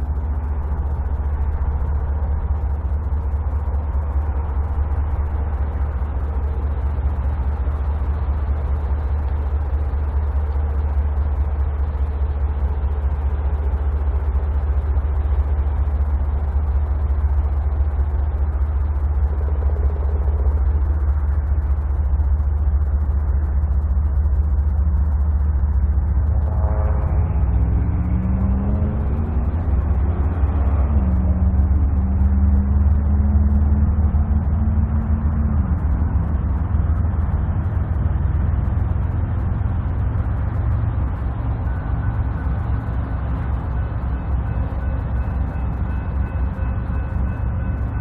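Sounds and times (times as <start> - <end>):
diesel locomotives rumbling: 0.0 - 48.0.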